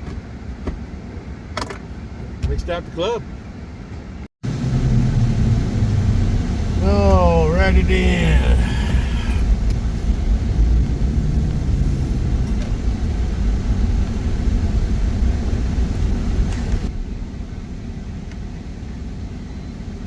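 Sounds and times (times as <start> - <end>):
road and engine rumble in truck cab: 0.0 - 20.0.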